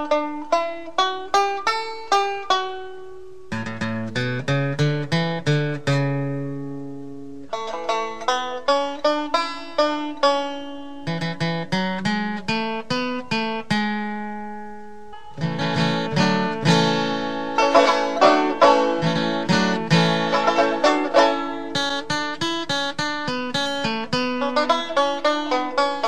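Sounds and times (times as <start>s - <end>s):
plucked string music: 0.0s - 26.0s.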